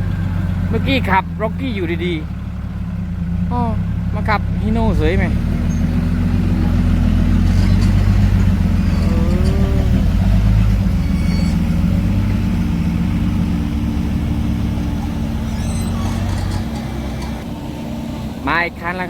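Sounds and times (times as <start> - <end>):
dump truck diesel engine: 0.0 - 19.0.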